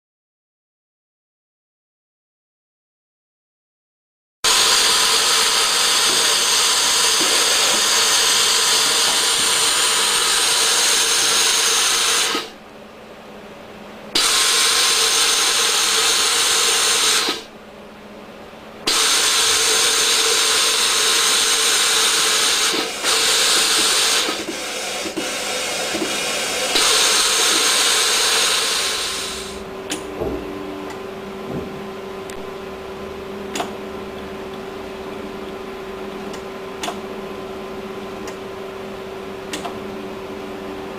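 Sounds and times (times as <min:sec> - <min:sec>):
machine whirring: 0:04.5 - 0:12.6, 0:14.1 - 0:17.6, 0:18.8 - 0:40.9.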